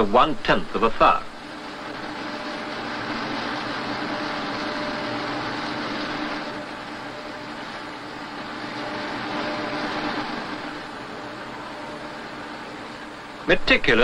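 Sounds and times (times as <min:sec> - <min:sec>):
grinding machine hiss: 0:00.0 - 0:14.0
low steady hum: 0:00.0 - 0:14.0.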